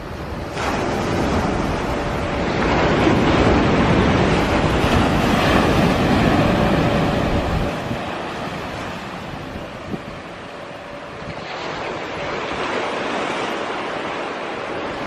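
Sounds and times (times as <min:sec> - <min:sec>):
loud roaring noise in sky: 0:00.0 - 0:15.0
wind on microphone: 0:00.0 - 0:15.0.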